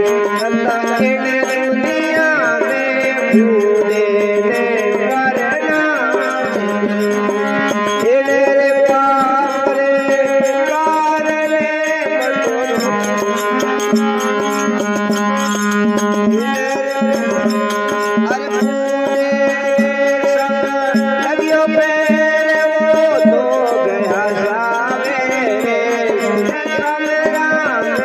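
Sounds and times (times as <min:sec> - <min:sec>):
hand drum percussion: 0:00.0 - 0:28.0.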